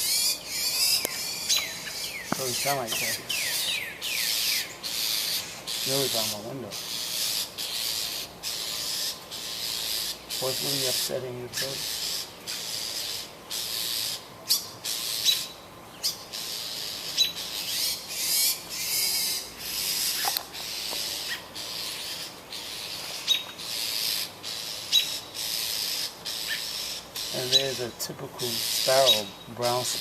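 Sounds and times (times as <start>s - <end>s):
bird screeching: 0.0s - 30.0s.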